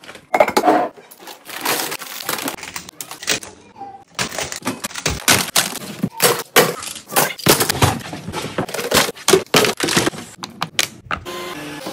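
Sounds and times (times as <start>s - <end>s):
plastic toys clattering into bin: 0.0s - 10.4s.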